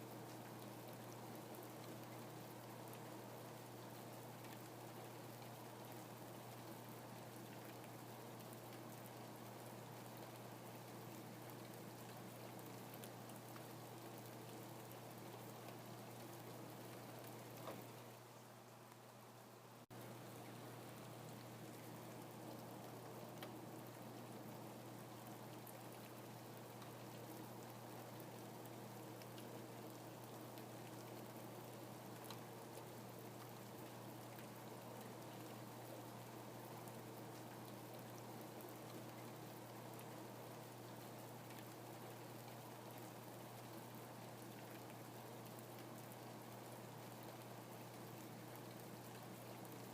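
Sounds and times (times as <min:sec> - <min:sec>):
steady rain: 0:00.0 - 0:49.9.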